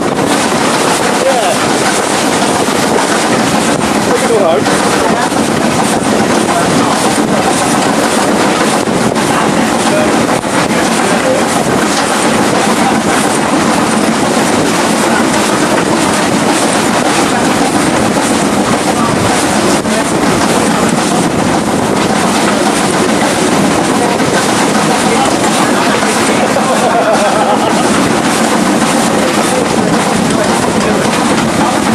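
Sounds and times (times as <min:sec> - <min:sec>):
train wheels rumbling and rattling: 0:00.0 - 0:31.9.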